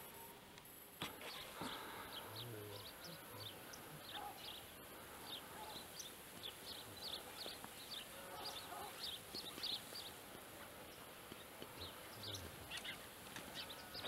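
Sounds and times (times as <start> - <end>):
light steady hiss: 0.0 - 14.0
small birds chirping: 0.0 - 14.0.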